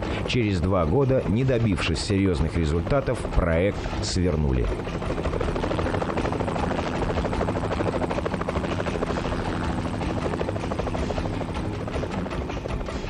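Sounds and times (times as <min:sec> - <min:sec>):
helicopter engine drone: 0:00.0 - 0:13.0
helicopter rotor blades chopping: 0:00.0 - 0:13.0.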